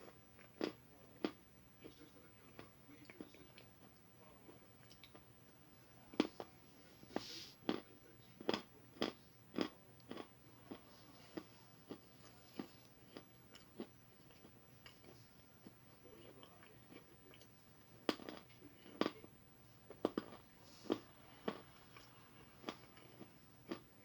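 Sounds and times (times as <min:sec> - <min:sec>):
crunchy food chewing: 0:00.0 - 0:05.2, 0:07.1 - 0:24.0.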